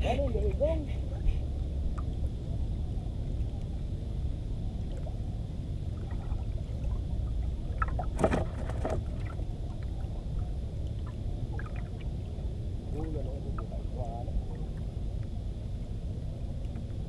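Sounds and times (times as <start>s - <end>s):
wind and sea water rumble: 0.0s - 17.0s.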